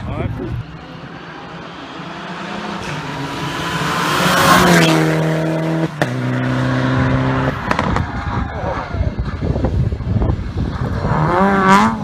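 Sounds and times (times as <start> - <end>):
rally car engine: 0.0 - 12.0.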